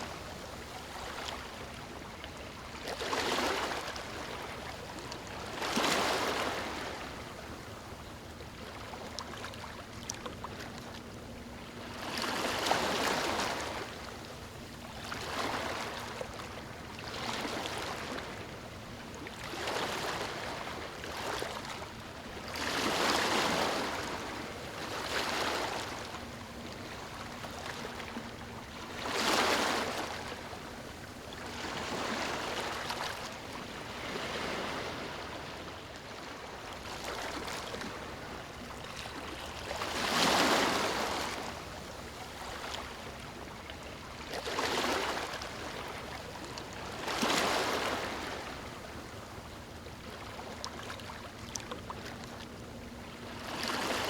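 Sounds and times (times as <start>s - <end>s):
small waves lapping on beach: 0.0s - 54.0s.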